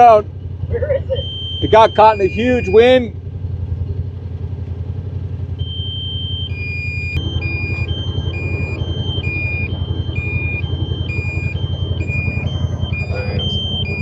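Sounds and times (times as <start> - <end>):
alternating two-tone alarm beeps: 0.0 - 3.0, 5.5 - 14.0
utility vehicle engine running: 0.0 - 14.0.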